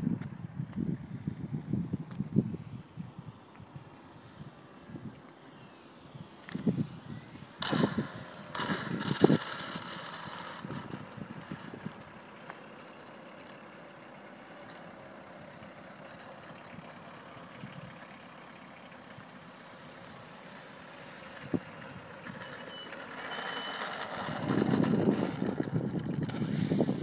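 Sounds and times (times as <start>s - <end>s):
model plane engine running: 2.5s - 27.0s.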